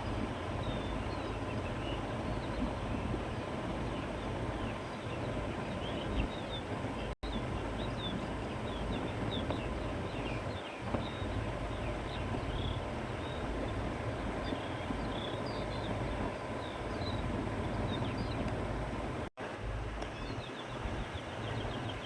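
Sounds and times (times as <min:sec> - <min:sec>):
small birds chirping: 0:00.0 - 0:19.1, 0:20.0 - 0:22.0
wind blowing: 0:00.0 - 0:22.0.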